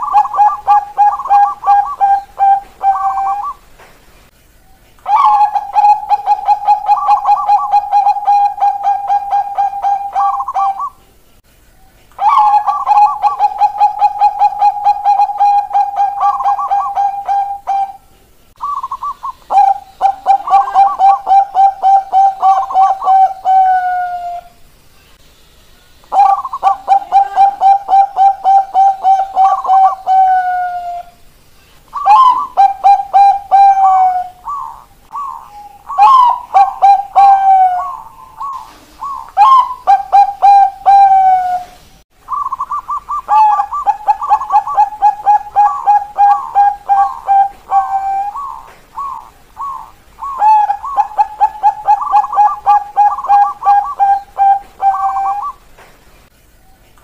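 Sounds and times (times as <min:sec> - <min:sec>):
doves cooing: 0:00.0 - 0:03.8, 0:04.6 - 0:11.0, 0:11.7 - 0:24.6, 0:26.1 - 0:31.3, 0:31.9 - 0:55.8.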